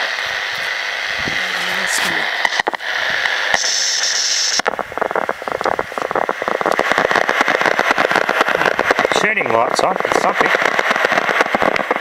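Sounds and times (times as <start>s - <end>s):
dense static crackle: 0.0s - 12.0s
radio static hiss: 0.0s - 12.0s.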